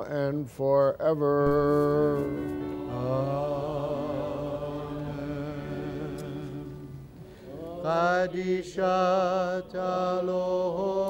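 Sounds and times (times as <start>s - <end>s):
choir chanting: 1.6s - 11.0s.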